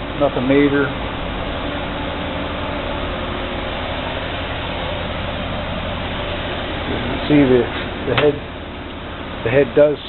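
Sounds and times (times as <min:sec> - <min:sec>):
low fluttering rumble: 0:00.0 - 0:09.4.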